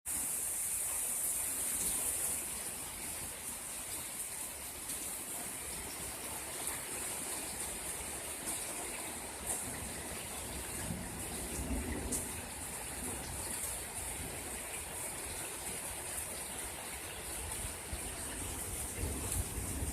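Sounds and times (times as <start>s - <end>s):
heavy rain pouring: 0.1s - 19.9s.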